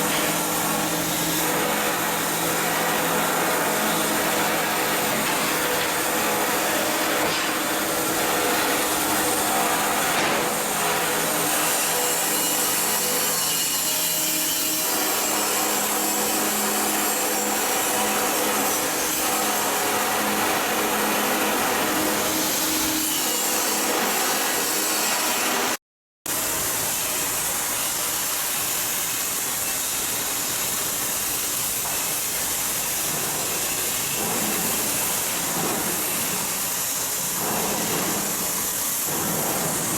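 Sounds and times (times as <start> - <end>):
shipyard tools and machinery din: 0.0 - 39.9.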